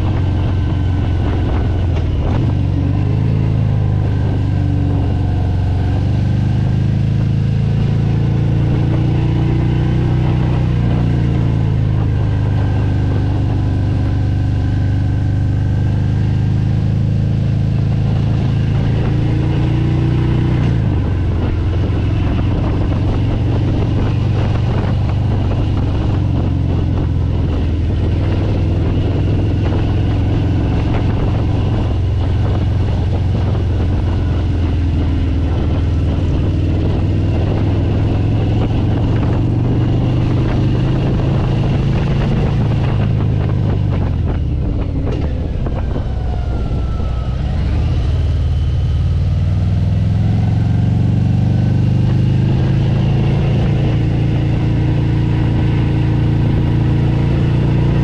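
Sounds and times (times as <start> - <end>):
vehicle engine running: 0.0 - 58.0
wind noise on microphone: 0.0 - 58.0.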